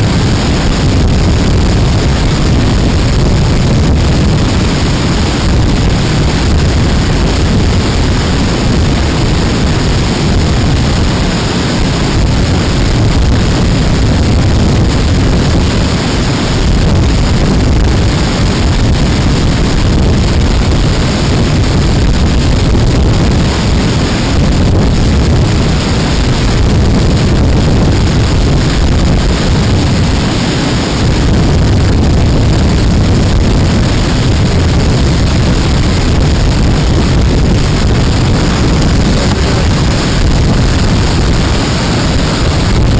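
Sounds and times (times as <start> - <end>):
waterfall rushing over rocks: 0.0 - 42.9.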